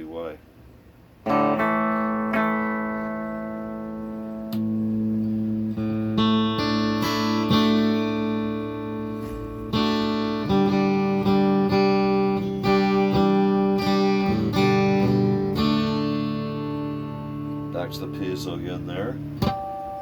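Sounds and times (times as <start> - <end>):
electric guitar strummed chords: 1.2 - 20.0.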